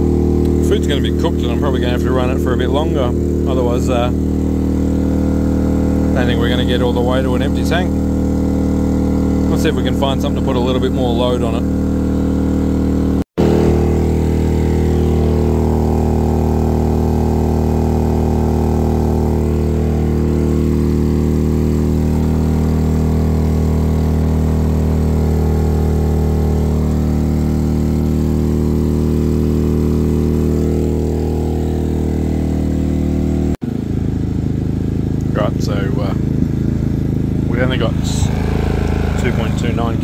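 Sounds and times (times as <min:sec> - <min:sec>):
generator engine running: 0:00.0 - 0:40.0.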